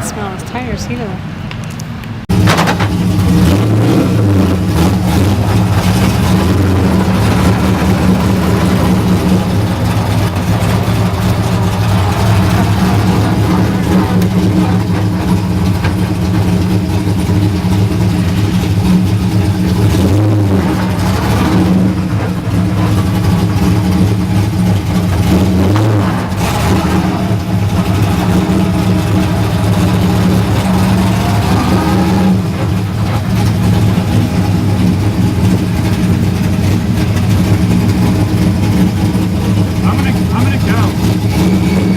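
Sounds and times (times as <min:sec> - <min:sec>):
car engine revving: 0:02.3 - 0:41.9.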